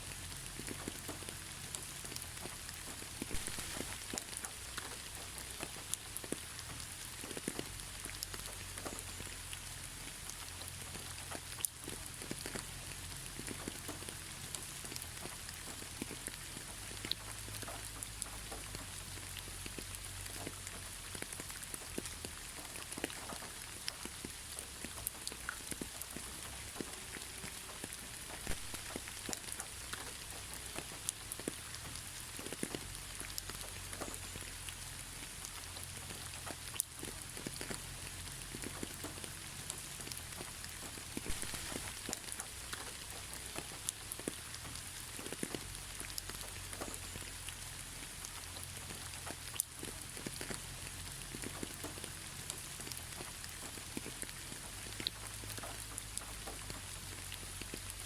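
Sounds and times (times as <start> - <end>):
gentle rain hiss: 0.0 - 58.0
rain drop ticks: 0.0 - 58.0.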